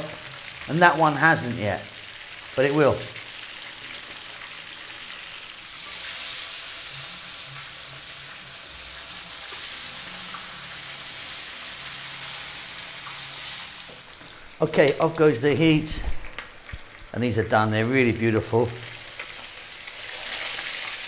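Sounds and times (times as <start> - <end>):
fish sizzling in hot oil: 0.0 - 14.6, 16.0 - 17.2, 18.6 - 21.0.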